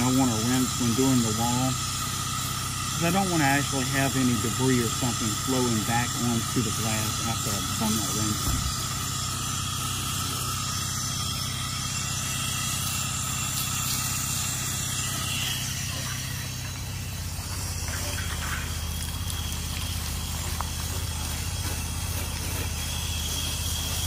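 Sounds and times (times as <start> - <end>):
engine humming: 0.0 - 24.0
pressure washer spray hissing: 0.0 - 24.0.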